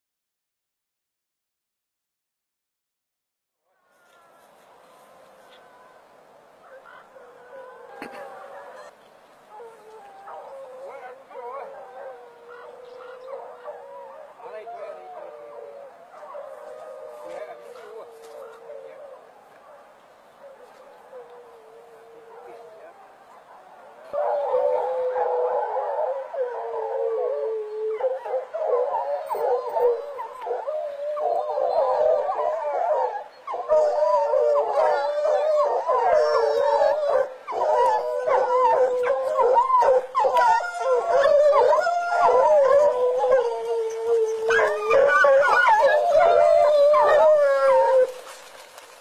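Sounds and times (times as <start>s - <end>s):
hounds baying: 6.6s - 49.0s.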